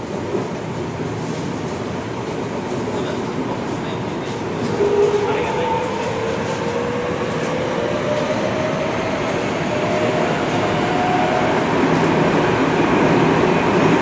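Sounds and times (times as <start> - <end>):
wheels and tunnel rumble: 0.0 - 14.0.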